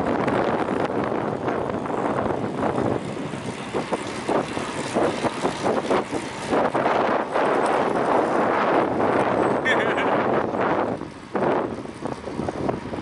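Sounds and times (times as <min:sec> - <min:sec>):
traffic noise: 0:00.0 - 0:13.0
wind buffeting microphone: 0:00.0 - 0:13.0.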